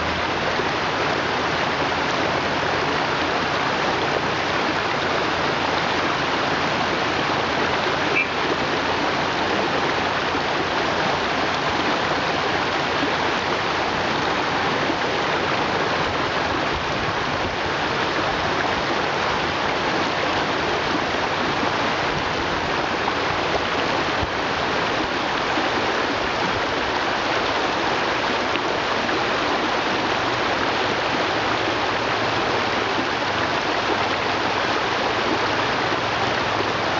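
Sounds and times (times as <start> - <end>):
river rushing over stones: 0.0 - 36.9.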